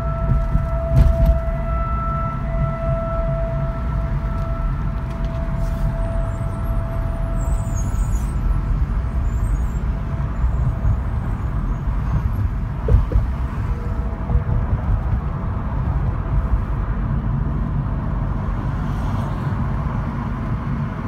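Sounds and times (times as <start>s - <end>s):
droning tone in the sky: 0.0s - 21.0s
low outdoor rumble: 0.0s - 21.0s.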